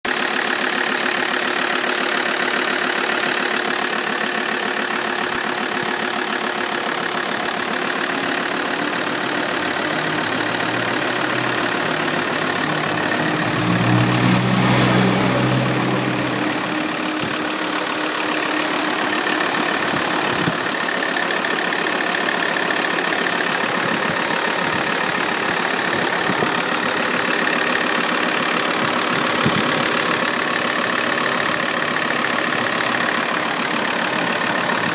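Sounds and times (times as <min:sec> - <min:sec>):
diesel engine idling: 0:00.1 - 0:34.9
rapid continuous squeak: 0:02.5 - 0:34.9.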